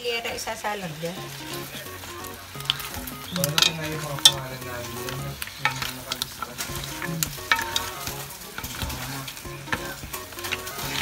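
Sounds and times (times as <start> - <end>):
seafood sizzling in sauce: 0.9 - 11.0
spatula clicking and scraping pot: 1.2 - 11.0.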